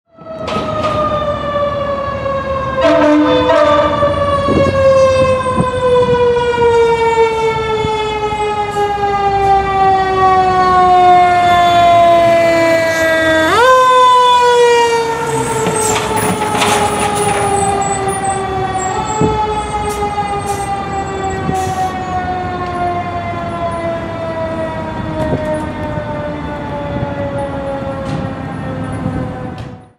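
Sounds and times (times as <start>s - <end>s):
fire engine siren wailing: 0.1s - 29.9s.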